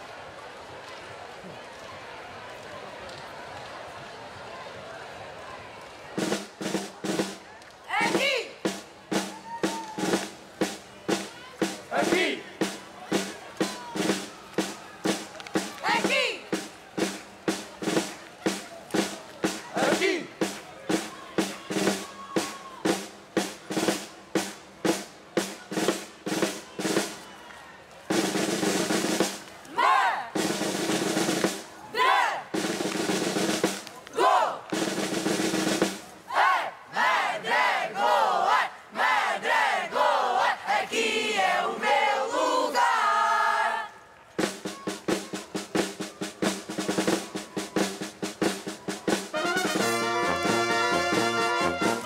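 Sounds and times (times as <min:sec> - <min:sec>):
brass instruments: 0:06.1 - 0:52.0
snare drum march beat: 0:06.2 - 0:27.3, 0:28.1 - 0:42.6, 0:44.4 - 0:52.0
chorus singing and calling out: 0:07.9 - 0:27.2, 0:28.1 - 0:52.0.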